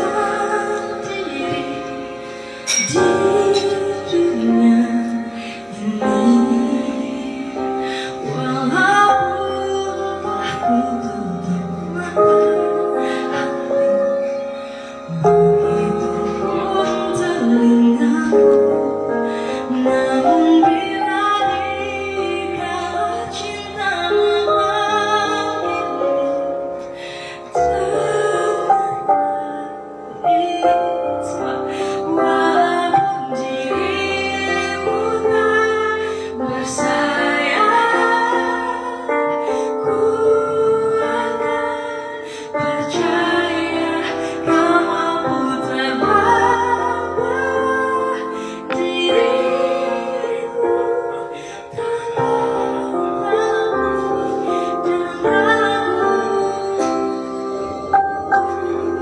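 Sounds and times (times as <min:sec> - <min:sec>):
instrumental accompaniment: 0:00.0 - 0:59.0
woman singing a ballad: 0:00.0 - 0:59.0.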